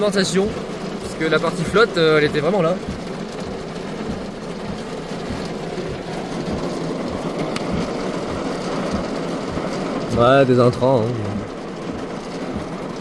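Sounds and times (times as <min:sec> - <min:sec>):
rain on a car roof: 0:00.0 - 0:13.0.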